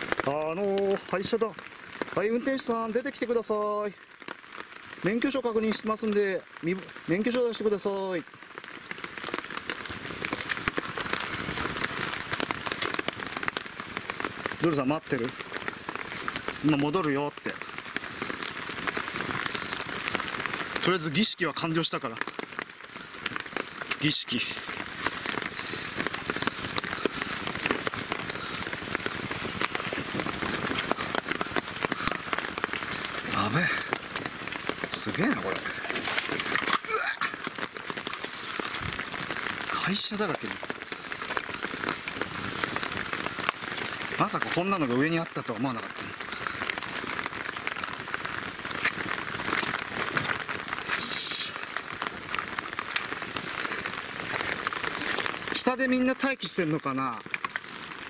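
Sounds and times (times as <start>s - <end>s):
rain falling: 0.0s - 58.0s
sharp raindrop ticks: 0.0s - 58.0s.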